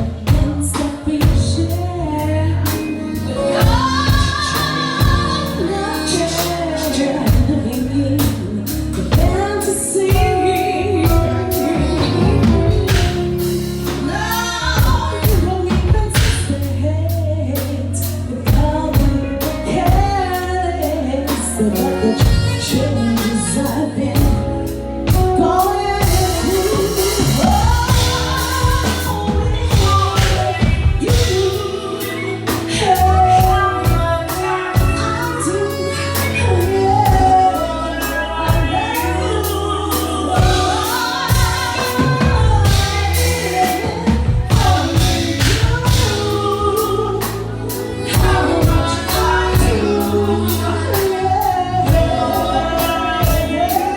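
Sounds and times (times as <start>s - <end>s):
bass line: 0.0s - 53.9s
drums: 0.0s - 53.9s
person singing rnb: 0.0s - 53.9s.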